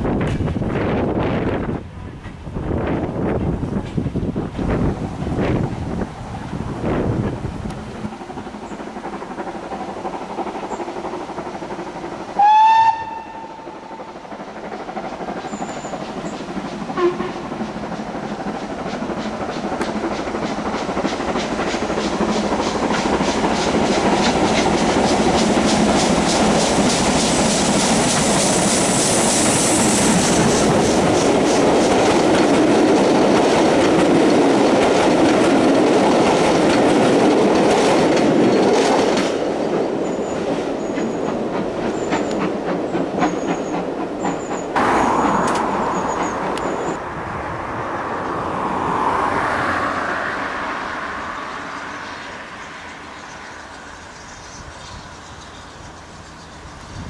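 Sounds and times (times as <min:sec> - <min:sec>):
train wheel clatter: 0:00.0 - 0:47.0
steam locomotive exhaust beats: 0:00.0 - 0:47.5
train coaches rolling: 0:00.0 - 0:57.0.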